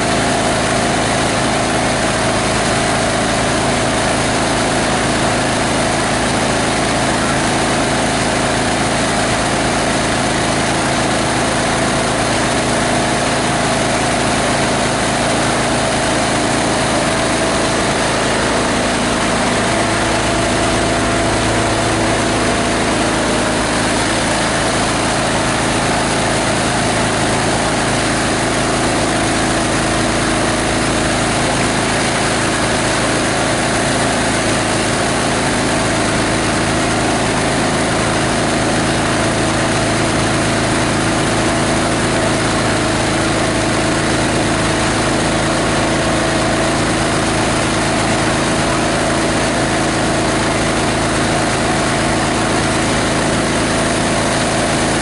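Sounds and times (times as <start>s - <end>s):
diesel engine driving shredder: 0.0s - 55.0s.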